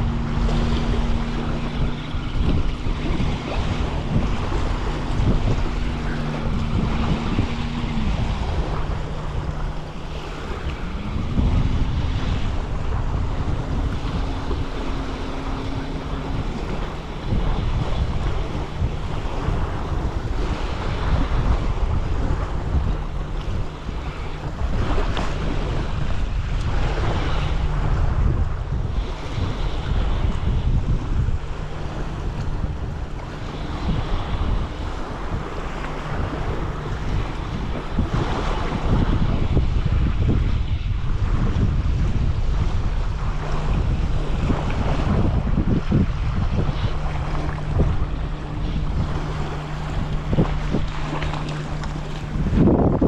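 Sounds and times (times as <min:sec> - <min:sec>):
gusty wind buffeting microphone: 0:00.0 - 0:53.0
waves washing on shore: 0:00.0 - 0:53.0.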